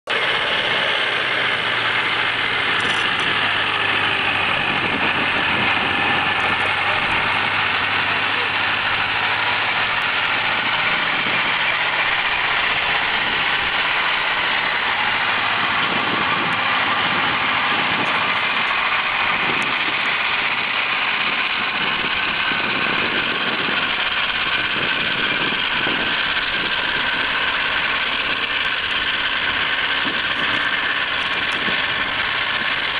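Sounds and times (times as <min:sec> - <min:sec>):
half-track engine running: 0:00.0 - 0:32.9.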